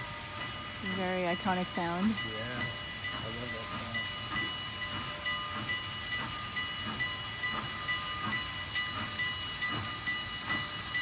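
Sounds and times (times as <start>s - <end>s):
steam hissing: 0.0s - 11.0s
steam locomotive chuffing: 0.0s - 11.0s.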